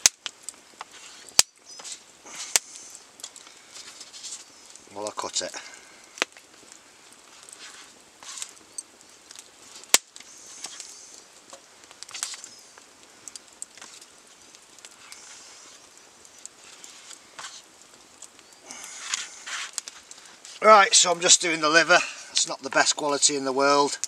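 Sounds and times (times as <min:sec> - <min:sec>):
crackling wood fire: 0:00.0 - 0:24.0
sharp crack: 0:00.0 - 0:24.0.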